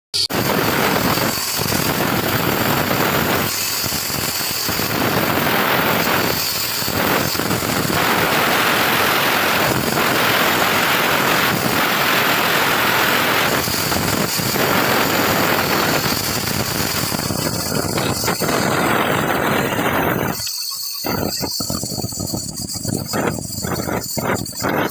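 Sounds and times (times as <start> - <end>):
woodworking power tool running: 0.2 - 24.9.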